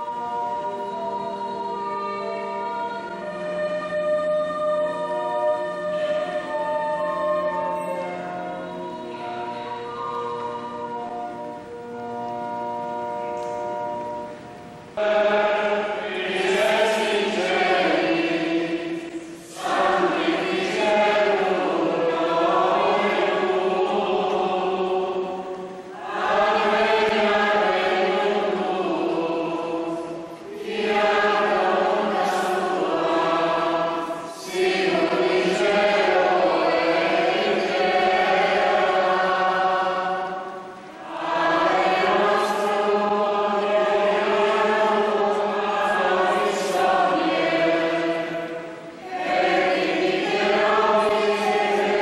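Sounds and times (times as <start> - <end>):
congregation and choir singing hymn: 0.0 - 52.0.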